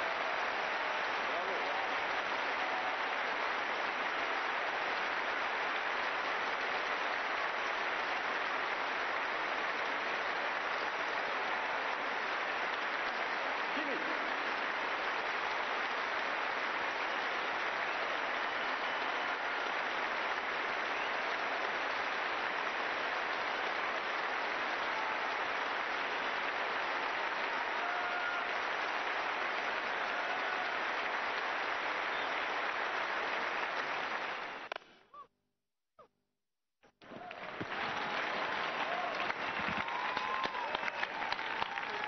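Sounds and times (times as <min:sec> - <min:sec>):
audience applauding: 0:00.0 - 0:34.8, 0:37.0 - 0:42.0.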